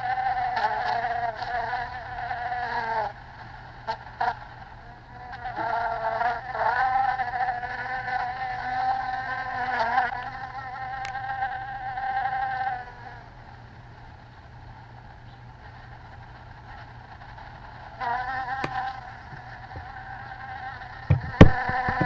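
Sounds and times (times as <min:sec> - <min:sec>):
flies buzzing: 0:00.0 - 0:22.0.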